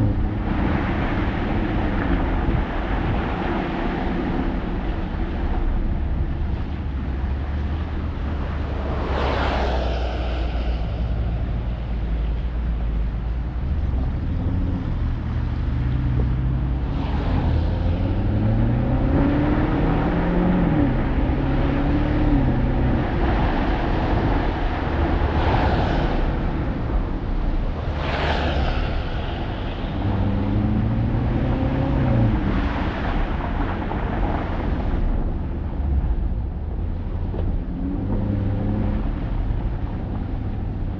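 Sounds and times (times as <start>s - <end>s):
car engine accelerating: 0.0s - 40.9s
rushing swells of noise: 0.0s - 40.9s
tyre and road noise: 0.0s - 40.9s.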